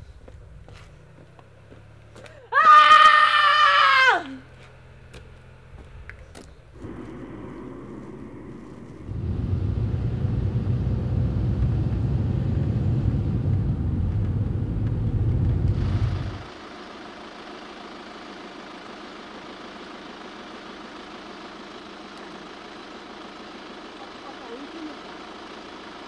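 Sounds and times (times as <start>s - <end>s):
car cabin road and engine rumble: 0.0s - 2.6s, 4.2s - 26.0s.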